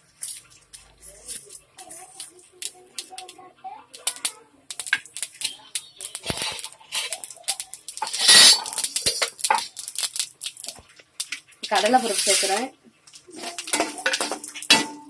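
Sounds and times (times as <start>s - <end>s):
oil sizzling: 0.0s - 15.0s
seeds popping in hot oil: 0.0s - 15.0s.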